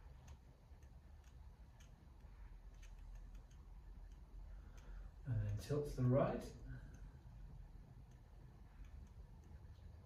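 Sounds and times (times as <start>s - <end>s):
faint irregular ticks: 0.0s - 10.0s.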